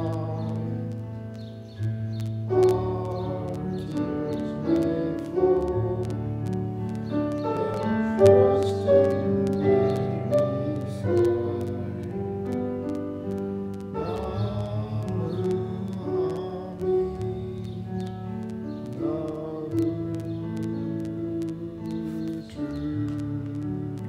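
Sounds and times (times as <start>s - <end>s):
piano chords: 0.0s - 24.0s
voices singing a hymn: 2.6s - 13.0s, 14.0s - 18.2s, 18.8s - 24.0s.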